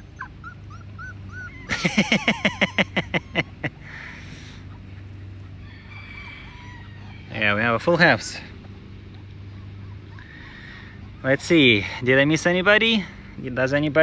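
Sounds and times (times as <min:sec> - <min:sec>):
chickens squawking: 0:00.0 - 0:13.6.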